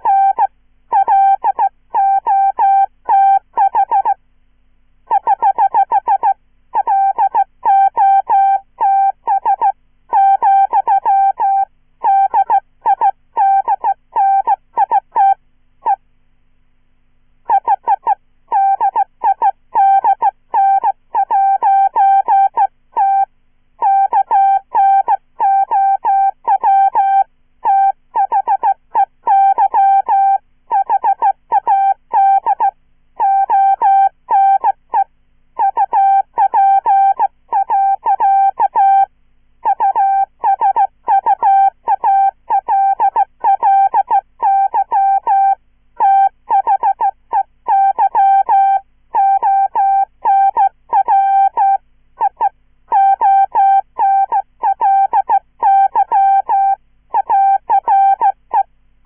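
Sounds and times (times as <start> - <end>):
morse code beeps: 0.0 - 4.2, 5.1 - 15.4, 17.5 - 35.0, 35.6 - 58.6.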